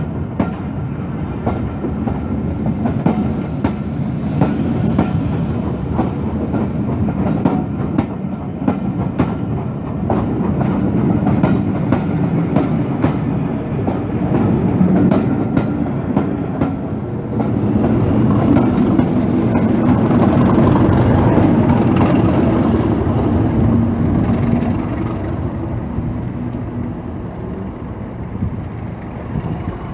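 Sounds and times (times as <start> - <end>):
passing train rumble: 0.0 - 29.9.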